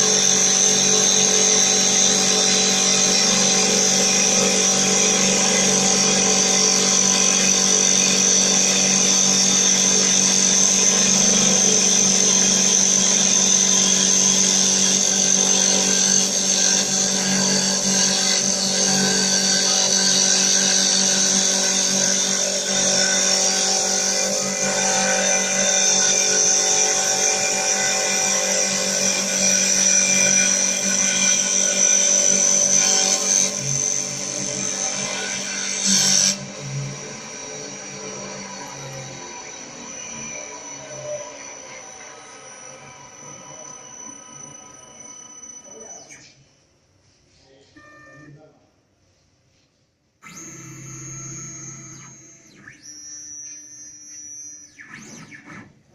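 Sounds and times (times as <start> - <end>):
wood lathe whining: 0.0 - 45.9, 50.2 - 55.8.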